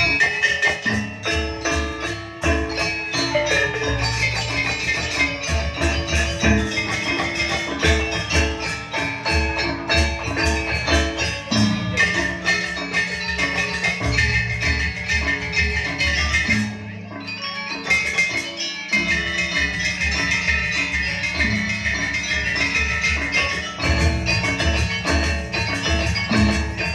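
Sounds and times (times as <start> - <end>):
metallophones playing fast melody: 0.0 - 26.9.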